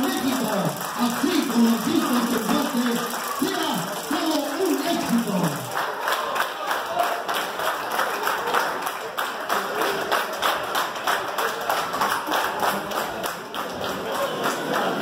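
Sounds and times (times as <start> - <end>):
crowd clapping in rhythm: 0.0 - 15.0.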